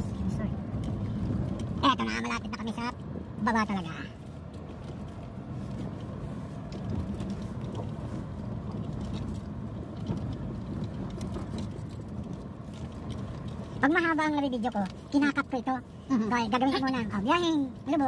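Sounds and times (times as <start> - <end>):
engine and tyres rumbling: 0.0 - 18.0
gravel ticks and rattles: 0.0 - 18.0.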